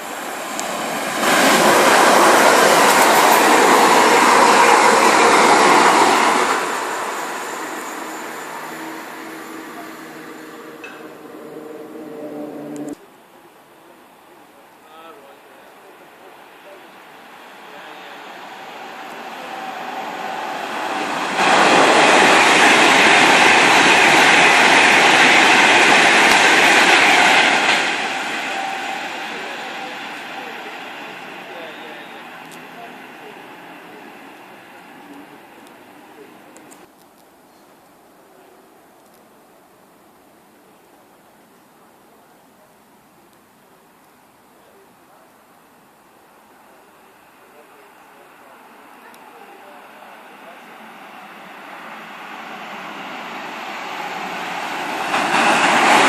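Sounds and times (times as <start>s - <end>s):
train passing at speed: 0.0s - 13.0s, 15.0s - 36.9s, 46.0s - 56.0s.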